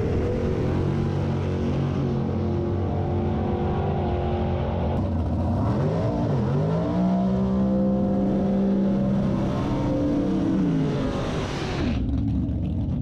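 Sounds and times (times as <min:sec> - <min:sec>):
drag racing car engines: 0:00.0 - 0:13.0.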